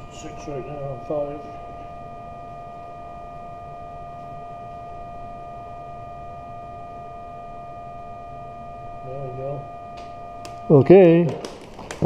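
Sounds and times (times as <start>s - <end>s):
steady two-tone touch-tone: 0.0s - 11.3s.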